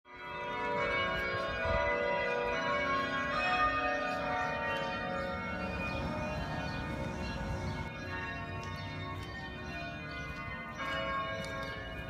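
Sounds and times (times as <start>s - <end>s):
bells ringing: 0.1s - 12.0s.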